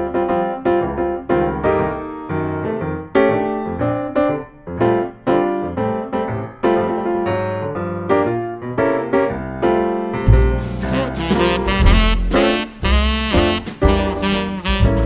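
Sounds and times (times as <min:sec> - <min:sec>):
solo piano melody: 0:00.0 - 0:15.0.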